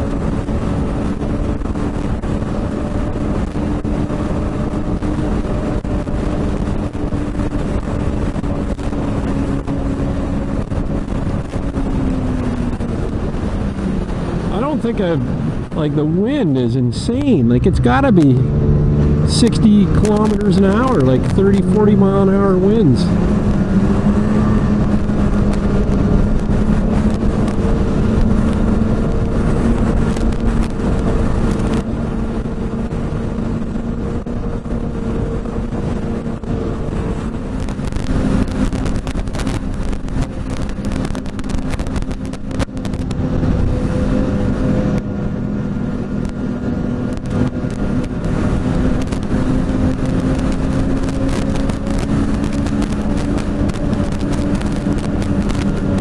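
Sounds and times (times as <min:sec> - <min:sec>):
snowmobile engine running: 0:00.0 - 0:56.0
wind buffeting microphone: 0:00.0 - 0:56.0.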